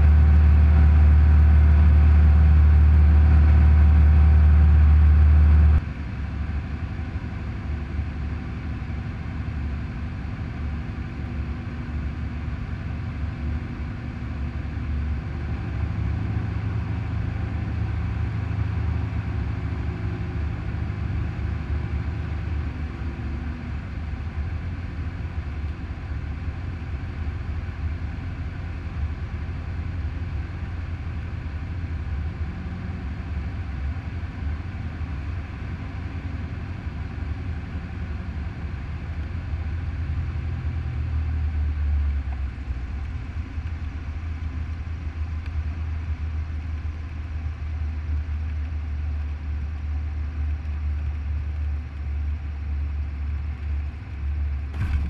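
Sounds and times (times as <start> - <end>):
airplane engine droning: 0.0 - 55.0.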